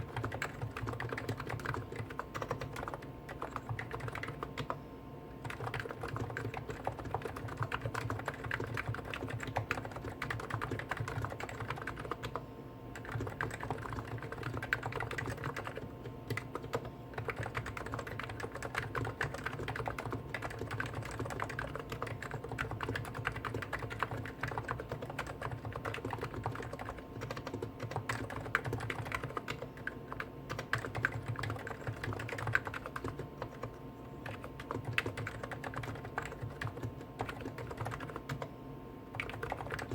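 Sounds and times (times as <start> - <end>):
keyboard typing: 0.0 - 4.8, 5.4 - 12.4, 13.0 - 38.5, 39.1 - 39.9
faint steady hum: 0.0 - 39.9.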